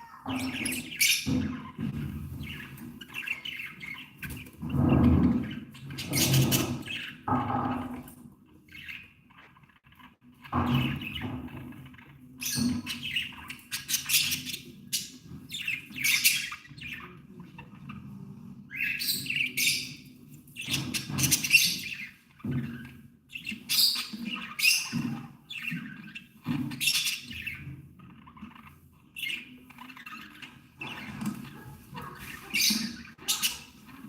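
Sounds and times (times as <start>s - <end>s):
budgerigars chirping and chattering: 0.0s - 34.0s.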